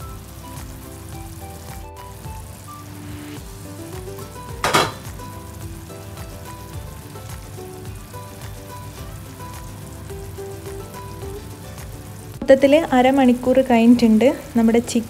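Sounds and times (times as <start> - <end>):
gravy sizzling and bubbling in pan: 0.0 - 15.0
soft background music: 0.0 - 15.0.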